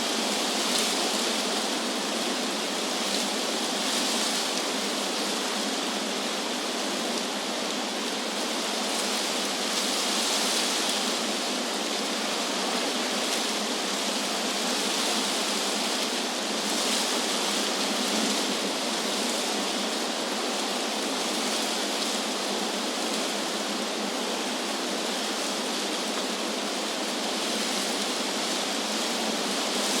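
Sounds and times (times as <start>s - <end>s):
wind through tree leaves: 0.0s - 30.0s.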